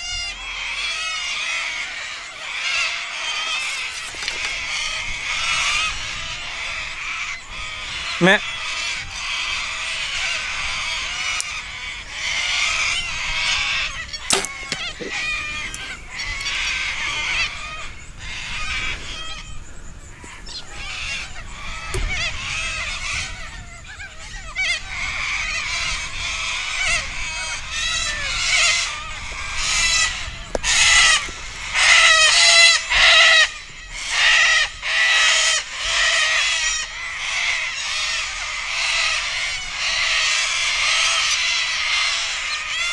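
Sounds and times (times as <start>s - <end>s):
cockatoos screeching: 0.0s - 42.9s.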